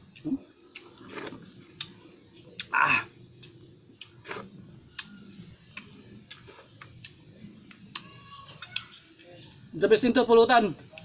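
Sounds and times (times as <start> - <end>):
mouth chewing clicks and smacks: 0.0 - 9.6.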